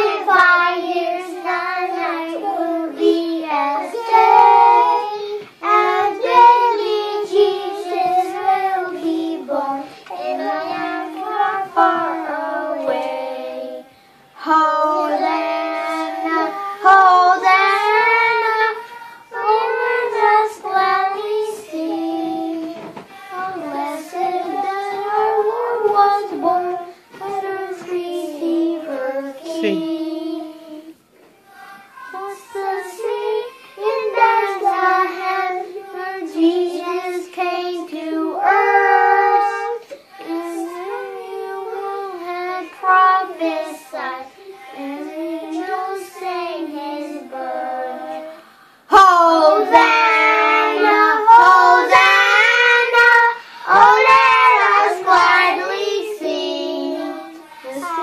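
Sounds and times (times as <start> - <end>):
young children singing: 0.0 - 58.0.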